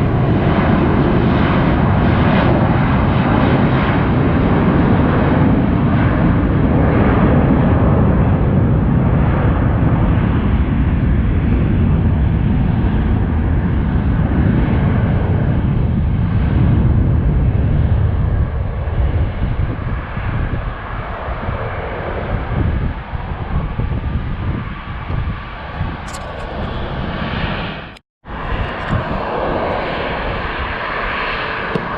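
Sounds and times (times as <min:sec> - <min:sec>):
jet airliner engines rumbling: 0:00.0 - 0:31.9.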